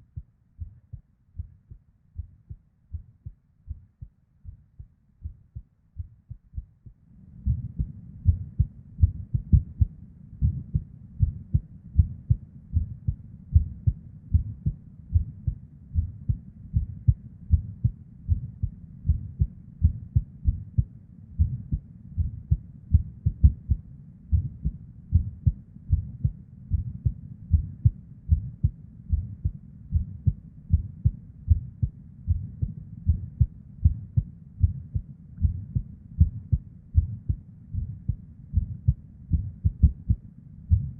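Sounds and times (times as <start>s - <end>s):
irregular heartbeat thumps: 0.0s - 40.9s.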